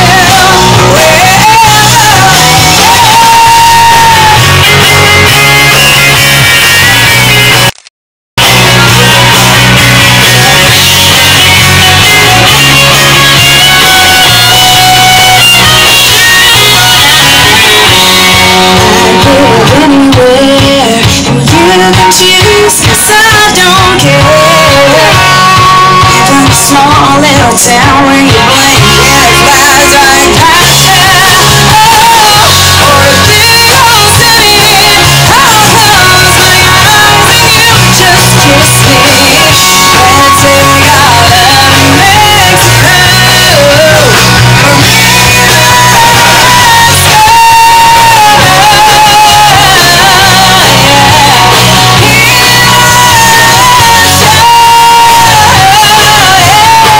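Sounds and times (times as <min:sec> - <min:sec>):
woman singing: 0:00.0 - 0:04.4, 0:11.8 - 0:56.9
live band playing instrumental: 0:00.0 - 0:07.8, 0:08.4 - 0:56.9.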